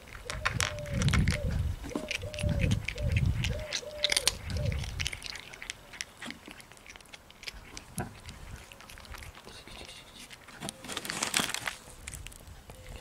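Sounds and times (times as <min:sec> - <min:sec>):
cat chewing and licking: 0:00.0 - 0:13.0.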